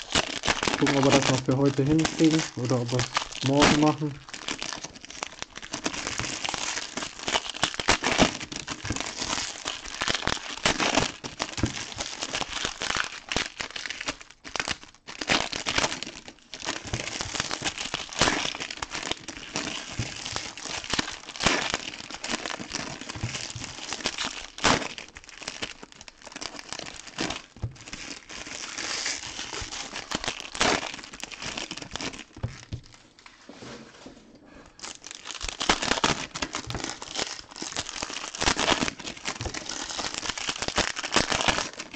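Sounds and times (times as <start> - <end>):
foil wrappers crinkling and tearing: 0.0 - 33.1, 34.7 - 41.9.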